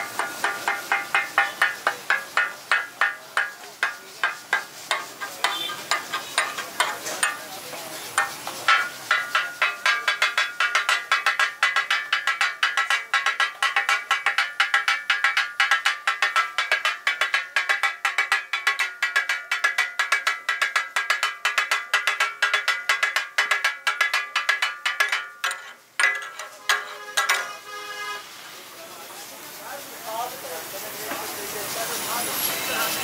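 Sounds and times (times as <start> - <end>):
metal spatula striking steel griddle: 0.0 - 28.2.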